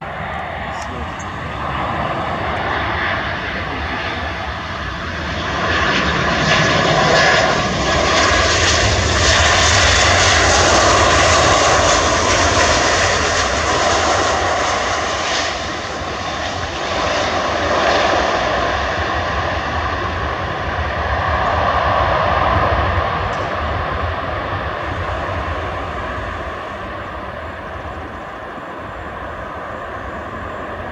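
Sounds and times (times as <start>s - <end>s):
jet engines rumbling whine: 0.0s - 30.9s.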